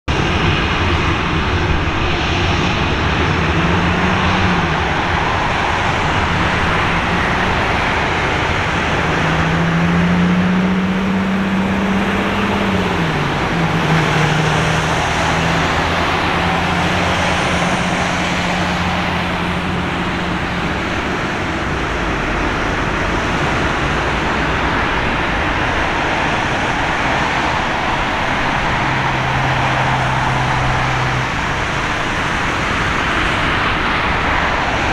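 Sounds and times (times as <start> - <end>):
road traffic roar: 0.0 - 34.9
vehicle engine hum: 0.0 - 34.9.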